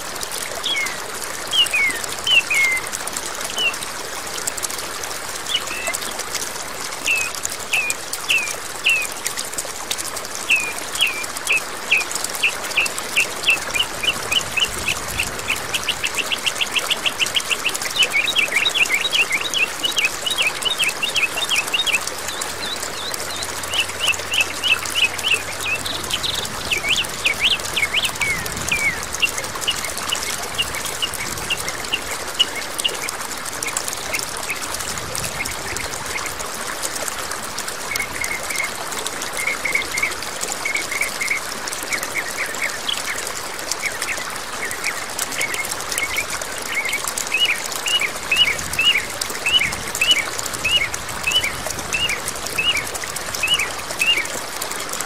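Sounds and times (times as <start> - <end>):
flowing water: 0.0 - 55.0
songbird singing: 0.4 - 3.8, 5.4 - 6.2, 7.0 - 9.2, 10.4 - 36.4, 37.9 - 54.4.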